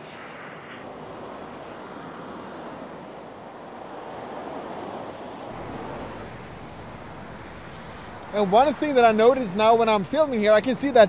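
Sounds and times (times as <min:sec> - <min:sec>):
heavy highway traffic: 0:00.0 - 0:11.0.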